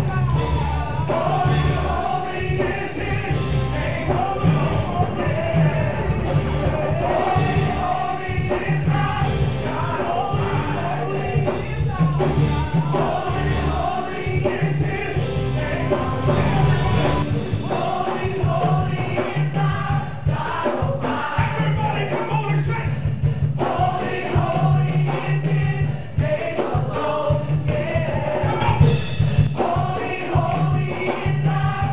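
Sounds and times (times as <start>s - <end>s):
band with bass and beat: 0.0s - 31.9s
choir singing: 0.0s - 31.9s
tambourine: 0.0s - 31.9s.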